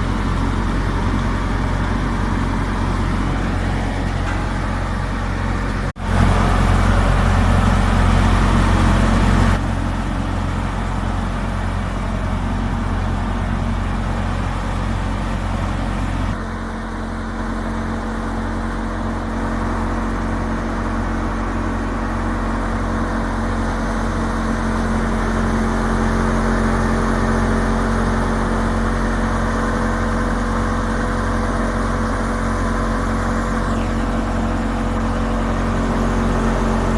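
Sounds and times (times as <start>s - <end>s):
thresher grinding crop: 0.0s - 36.9s
tractor engine drone: 0.0s - 36.9s.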